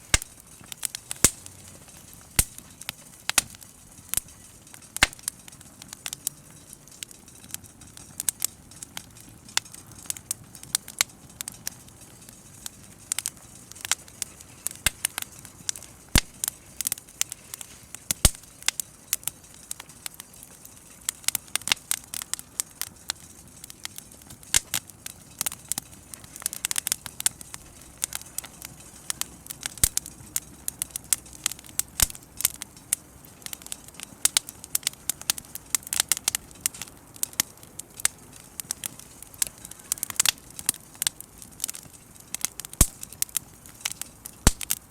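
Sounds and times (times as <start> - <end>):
bonfire crackling and popping: 0.0 - 44.9.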